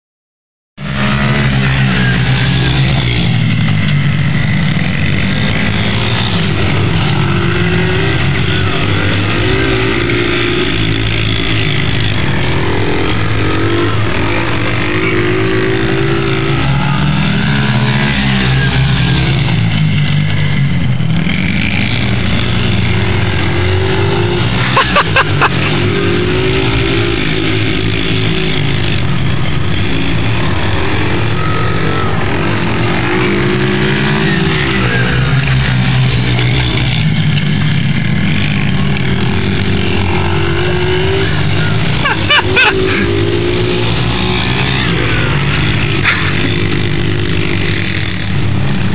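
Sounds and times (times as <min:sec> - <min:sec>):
small motorbike engines revving: 0:00.8 - 0:48.9.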